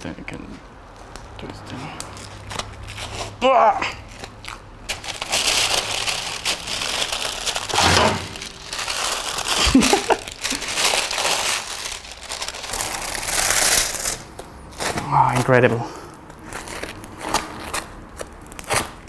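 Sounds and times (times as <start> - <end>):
paper and plastic crinkling: 2.0 - 3.4, 4.0 - 19.0.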